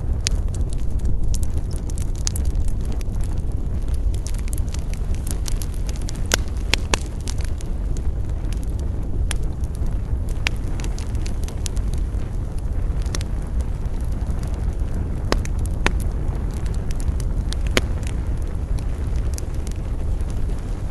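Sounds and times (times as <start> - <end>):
campfire crackling: 0.0 - 20.9.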